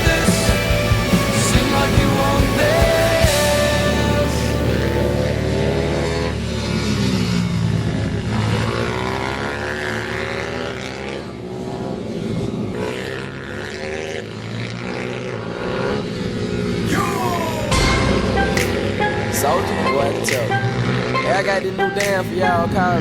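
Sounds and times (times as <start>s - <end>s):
small motorbike engines revving: 0.0s - 23.0s.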